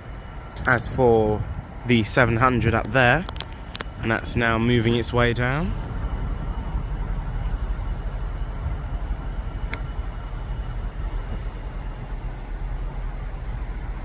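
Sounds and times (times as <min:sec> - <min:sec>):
electric train rumble: 0:00.0 - 0:14.0
faint train whine: 0:00.0 - 0:14.0.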